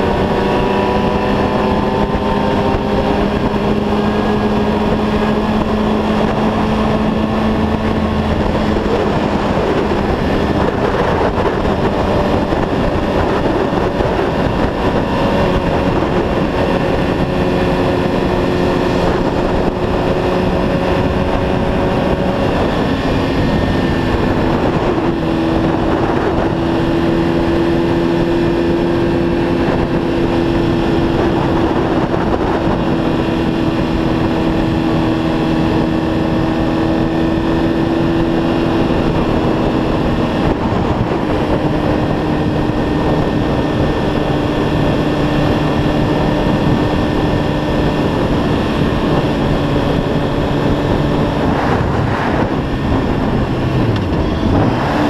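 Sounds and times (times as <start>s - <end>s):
motorcycle engine cruising: 0.0s - 55.0s
road and wind noise: 0.0s - 55.0s.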